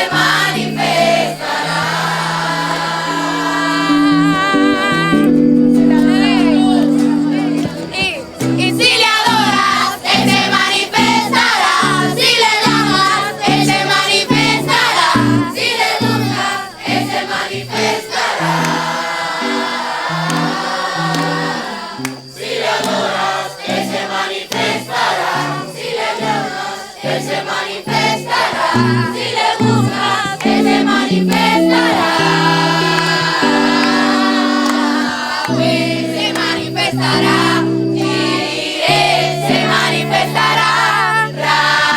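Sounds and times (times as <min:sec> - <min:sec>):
group singing: 0:00.0 - 0:41.9
sustained instrumental chords: 0:00.0 - 0:41.9.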